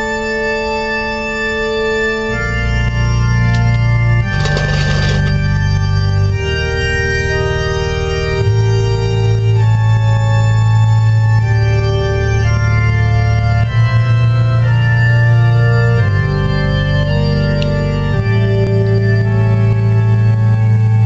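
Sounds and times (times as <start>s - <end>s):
organ chords: 0.0s - 21.0s.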